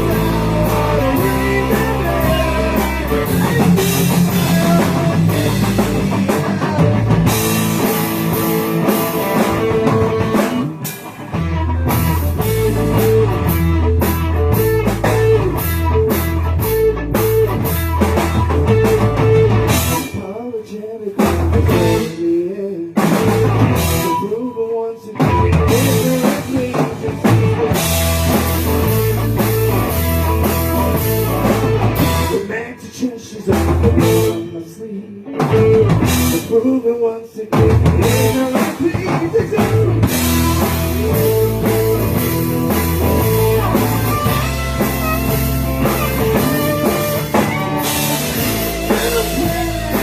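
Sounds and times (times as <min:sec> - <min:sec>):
rock band playing: 0:00.0 - 0:50.0.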